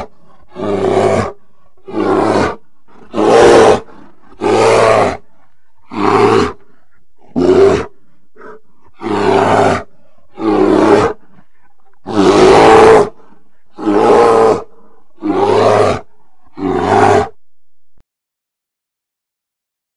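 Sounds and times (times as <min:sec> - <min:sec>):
bear roaring: 0:00.0 - 0:17.4.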